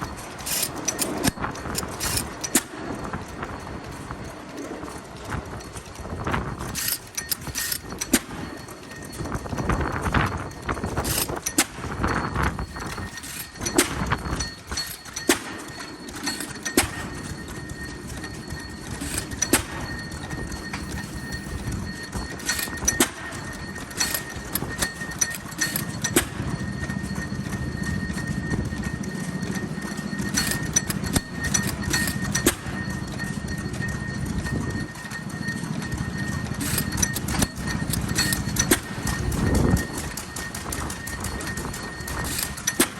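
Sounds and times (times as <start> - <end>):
old stationary engines knocking: 0.0 - 42.9.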